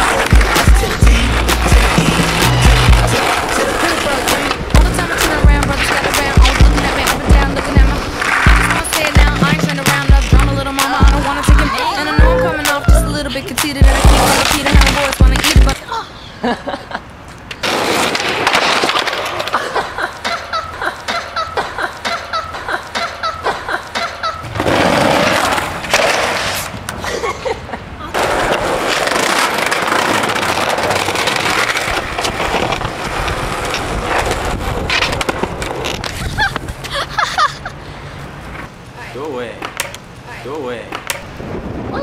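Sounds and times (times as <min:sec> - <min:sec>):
skateboards clattering: 0:00.0 - 0:15.9, 0:17.2 - 0:27.1, 0:28.1 - 0:37.5, 0:39.5 - 0:40.2, 0:40.8 - 0:41.4
skateboard wheels rolling on concrete: 0:00.0 - 0:42.0.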